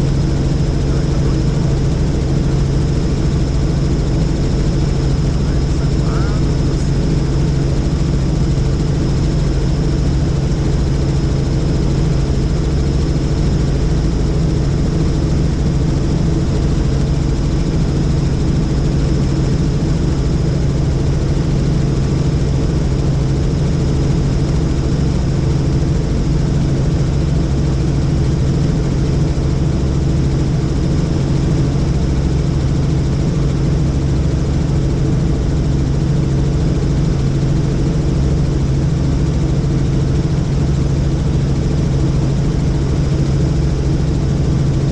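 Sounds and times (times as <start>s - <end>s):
helicopter rotor and engine drone: 0.0s - 44.9s.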